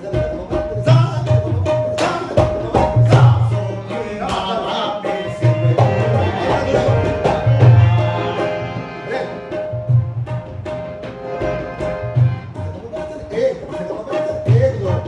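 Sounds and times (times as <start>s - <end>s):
harmonium melody: 0.0s - 15.0s
tabla rhythm: 0.0s - 15.0s.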